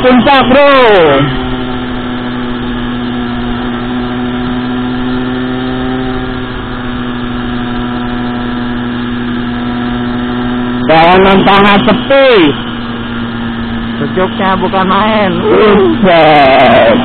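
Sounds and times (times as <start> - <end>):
mini motorbike engine running: 0.0 - 17.0.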